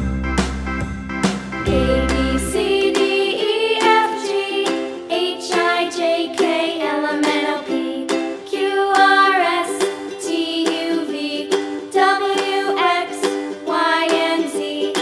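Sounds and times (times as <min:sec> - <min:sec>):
children's tune with ukulele: 0:00.0 - 0:15.0.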